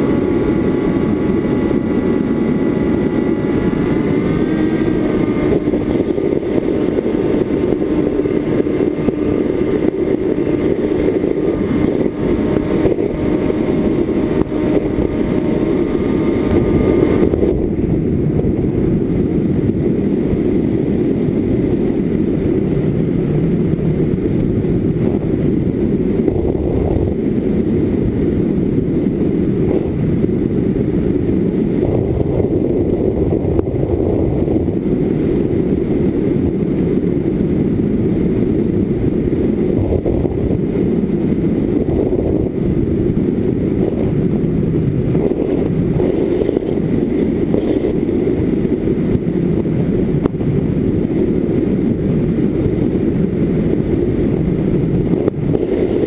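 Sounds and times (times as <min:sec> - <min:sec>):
electric motor and propeller: 0:00.0 - 0:56.0
muffled wind rush: 0:00.0 - 0:56.0.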